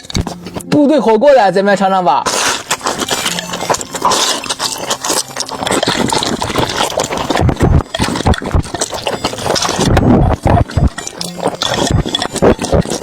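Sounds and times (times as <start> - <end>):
slurping and chewing: 2.2 - 13.0
mouth smacking clicks: 2.3 - 13.0.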